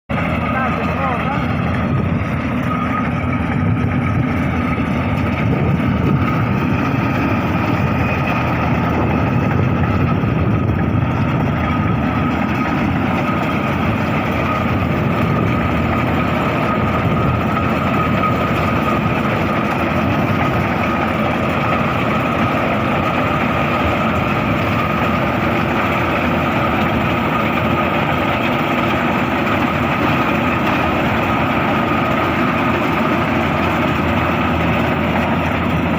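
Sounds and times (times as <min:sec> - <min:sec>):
combine harvester engine running: 0:00.1 - 0:35.9
steady machine whine: 0:00.1 - 0:35.9.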